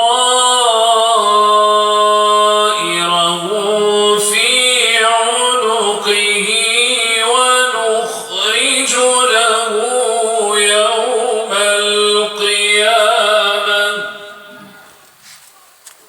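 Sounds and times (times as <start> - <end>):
man chanting melodic recitation: 0.0 - 15.0.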